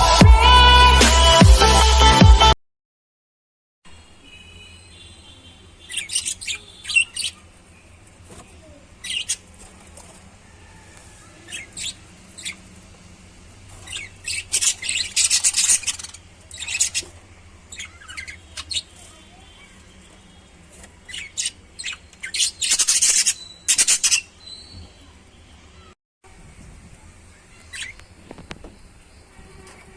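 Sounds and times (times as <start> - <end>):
lovebirds chirping: 4.0 - 26.0, 27.3 - 29.8.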